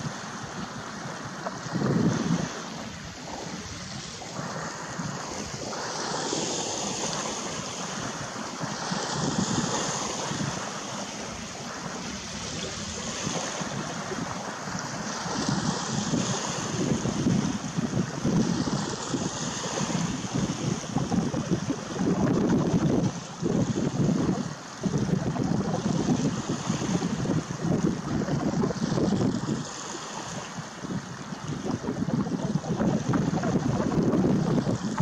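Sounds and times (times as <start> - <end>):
water lapping: 0.0 - 35.0
wind on microphone: 0.0 - 35.0.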